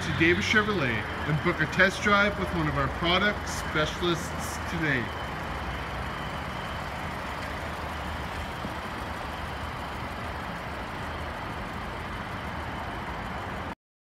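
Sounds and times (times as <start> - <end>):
vehicle rumble and hiss: 0.0 - 13.8.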